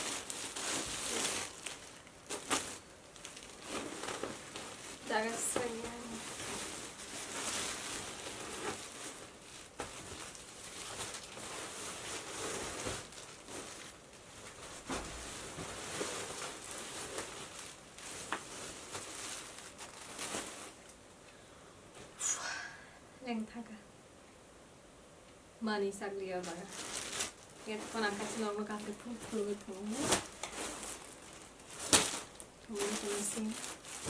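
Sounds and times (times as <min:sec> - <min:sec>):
packaging and fabric rustling: 0:00.0 - 0:21.1, 0:26.3 - 0:34.0.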